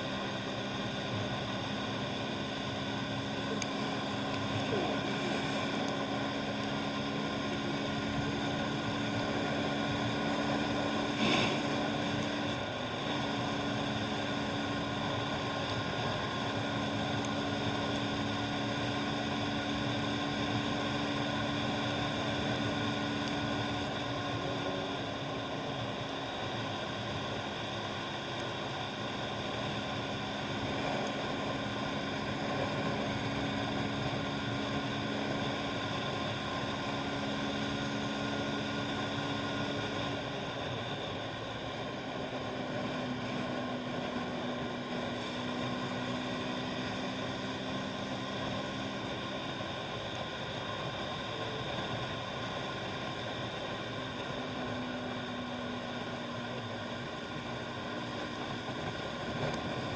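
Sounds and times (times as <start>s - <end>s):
motorbike engine running: 0.0s - 59.9s
road and wind noise: 0.0s - 59.9s.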